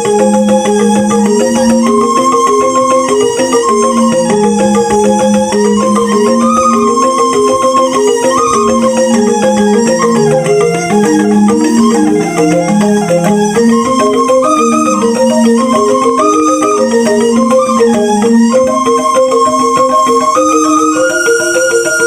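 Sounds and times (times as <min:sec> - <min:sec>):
bamboo xylophone music: 0:00.0 - 0:22.0.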